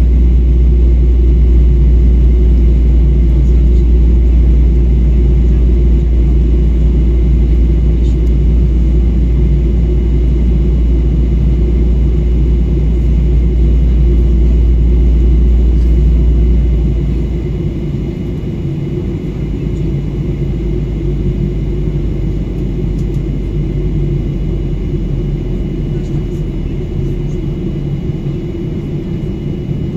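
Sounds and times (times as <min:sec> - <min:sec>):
airliner cabin rumble: 0:00.0 - 0:29.9.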